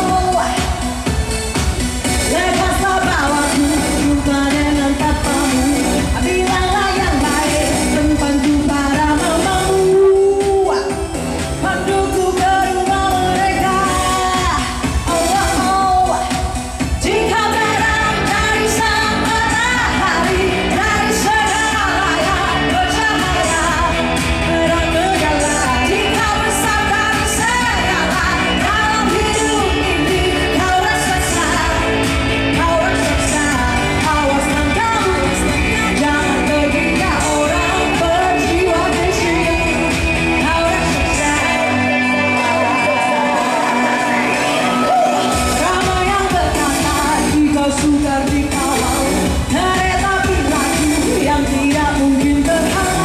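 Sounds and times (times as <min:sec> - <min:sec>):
woman singing into a microphone: 0:00.0 - 0:53.0.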